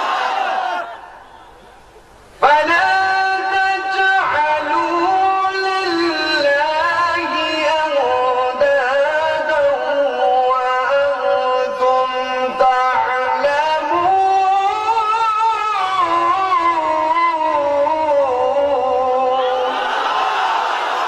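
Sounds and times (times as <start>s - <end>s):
man chanting through a microphone: 2.4s - 19.8s.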